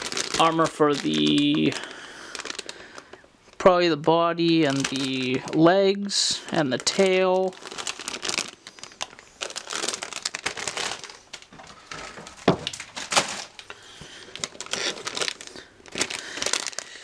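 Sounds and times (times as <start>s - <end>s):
plastic packaging crinkling: 0.0s - 17.0s
sharp plastic crackles: 0.0s - 17.0s.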